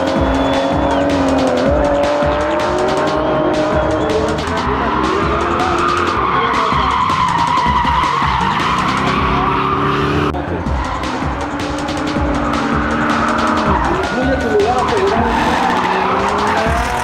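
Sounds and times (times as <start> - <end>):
engines revving: 0.0 - 17.0.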